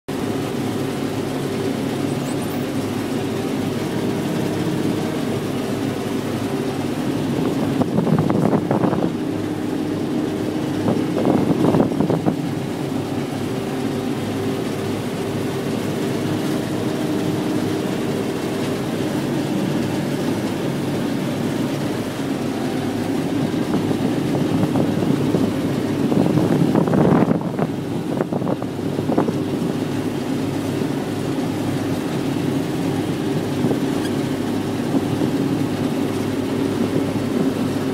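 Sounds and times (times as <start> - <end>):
combine harvester engine drone: 0.1 - 37.9.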